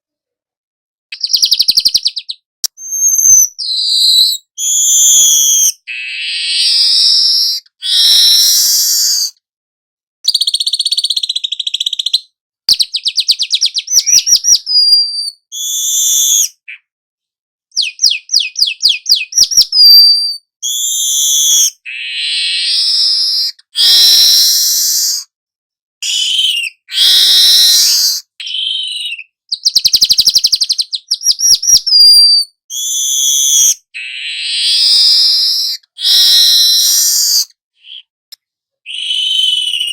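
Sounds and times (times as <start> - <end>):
bird buzzy chattering song: 1.1 - 9.4, 10.3 - 16.9, 17.7 - 25.2, 26.0 - 38.1, 38.9 - 39.9.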